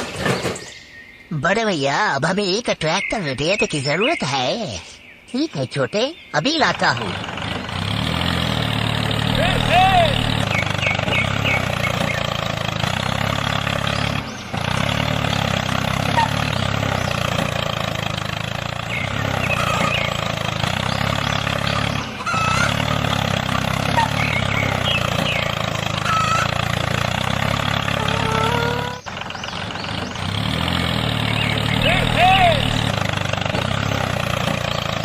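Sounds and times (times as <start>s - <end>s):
tractor engine running: 0.0s - 1.0s, 6.2s - 35.0s.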